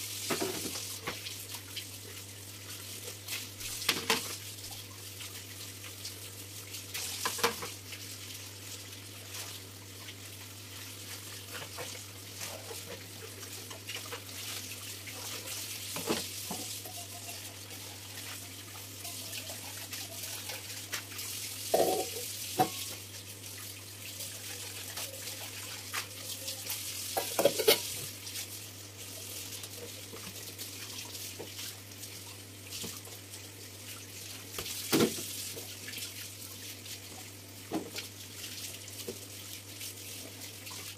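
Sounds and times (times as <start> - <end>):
kitchen tap running into sink: 0.0 - 40.9.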